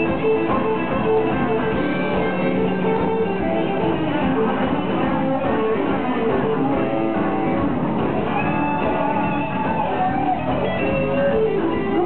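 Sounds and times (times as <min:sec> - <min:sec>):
bass guitar: 0:00.0 - 0:12.0
drums: 0:00.0 - 0:12.0
electric guitar: 0:00.0 - 0:12.0.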